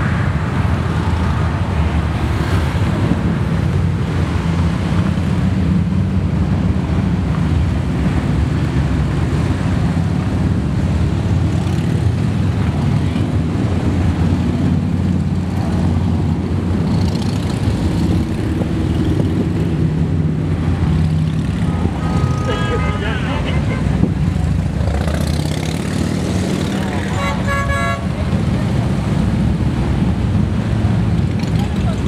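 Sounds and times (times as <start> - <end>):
motorcycles riding past: 5.8 - 32.0.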